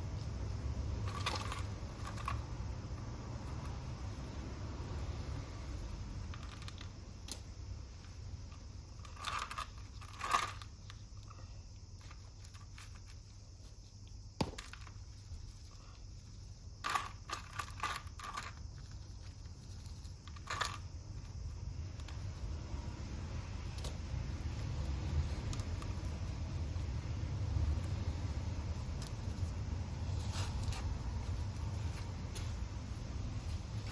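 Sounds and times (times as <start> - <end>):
crunching and rustling of soil: 0.0 - 33.9
low steady hum: 0.0 - 33.9.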